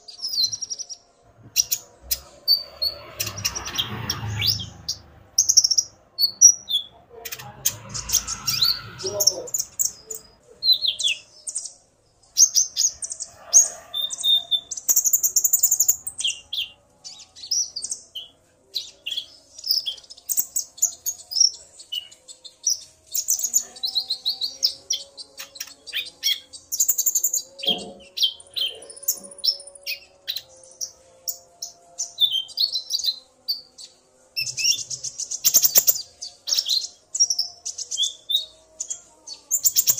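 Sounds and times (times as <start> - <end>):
sunbirds chirping and twittering: 0.0 - 39.9.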